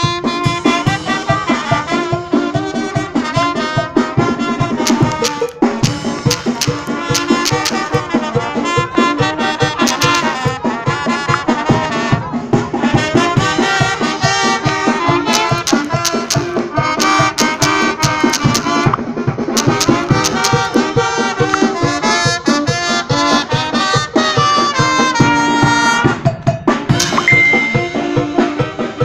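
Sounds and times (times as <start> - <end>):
brass band playing dance music: 0.0 - 29.0.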